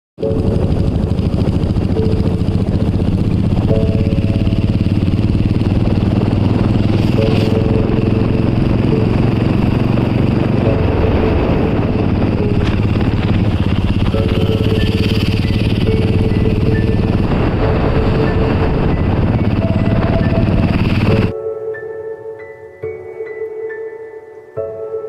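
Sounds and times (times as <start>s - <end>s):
motorcycle engine running: 0.2s - 21.3s.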